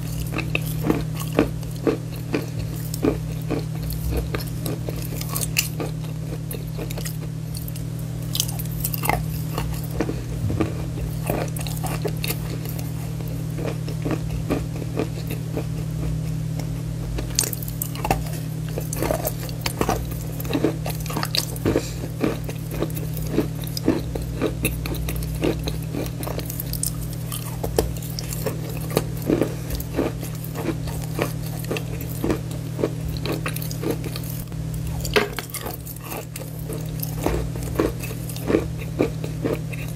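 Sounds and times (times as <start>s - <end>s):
chalk crunching while chewed: 0.0s - 39.9s
steady low hum: 0.0s - 39.9s.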